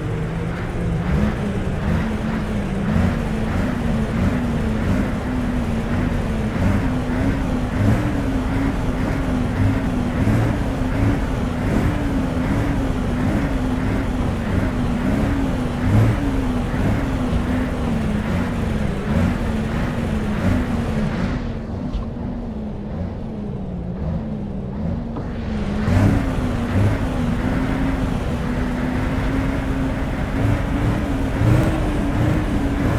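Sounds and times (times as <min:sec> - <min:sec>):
diesel truck engine droning: 0:00.0 - 0:32.9.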